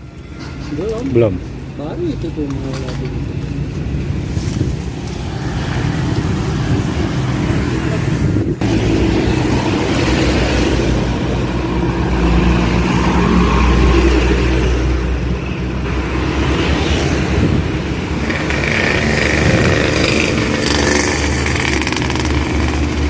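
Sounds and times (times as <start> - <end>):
road noise: 0.0 - 23.0
vehicle engine humming: 0.0 - 23.0.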